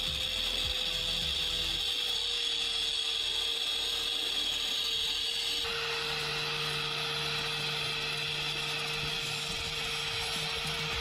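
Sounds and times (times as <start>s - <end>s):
angle grinder cutting metal: 0.0s - 11.0s.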